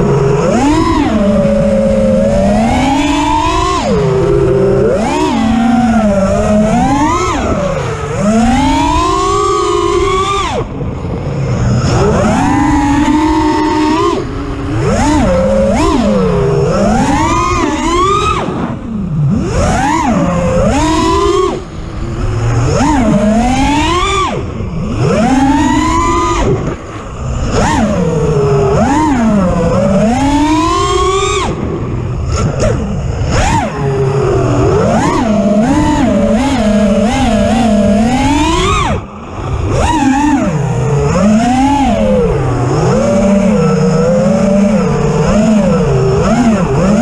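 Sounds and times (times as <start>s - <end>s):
drone motors whining: 0.0s - 47.0s
wind rush: 5.4s - 46.8s.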